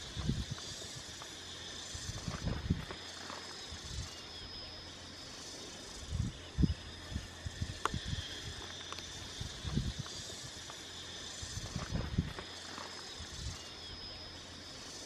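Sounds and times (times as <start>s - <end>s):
high-pitched background drone: 0.0s - 15.0s.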